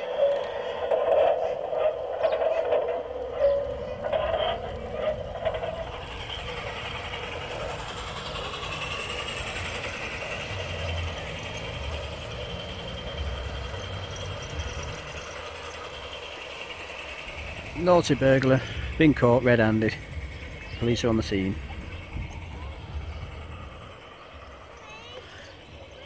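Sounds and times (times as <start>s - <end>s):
model train whirring on track: 0.0s - 26.0s.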